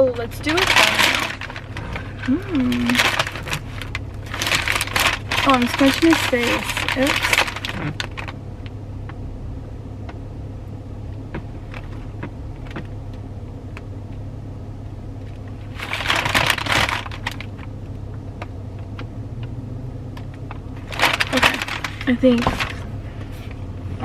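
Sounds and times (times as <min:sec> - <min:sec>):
car engine idling with air conditioning: 0:00.0 - 0:24.0.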